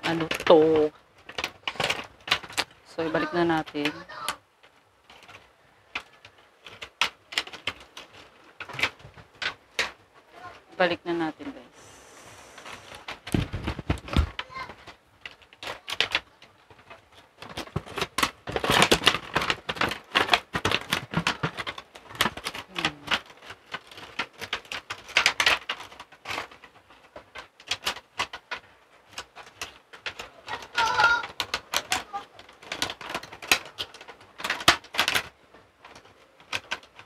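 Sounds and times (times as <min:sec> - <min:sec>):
plastic and cardboard crinkling: 0:00.0 - 0:37.0.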